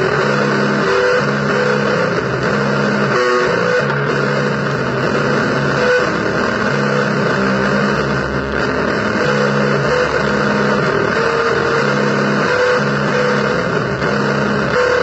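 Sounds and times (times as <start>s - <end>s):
distorted blues guitar: 0.0s - 15.0s.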